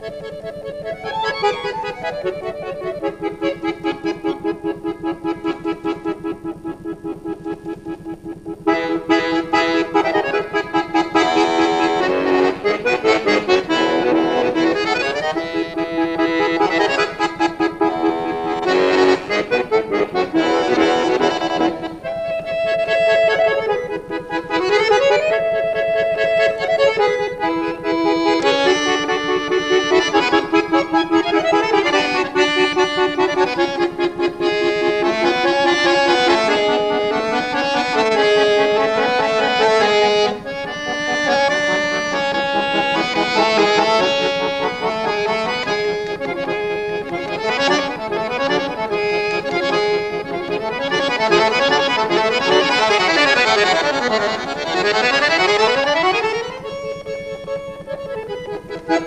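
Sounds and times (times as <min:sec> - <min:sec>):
button accordion playing: 0:00.0 - 0:59.0.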